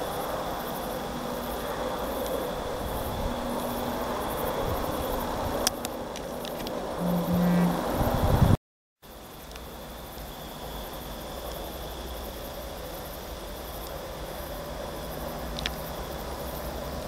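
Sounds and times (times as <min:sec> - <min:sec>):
faint insect trill: 0:00.0 - 0:08.4, 0:09.0 - 0:17.0.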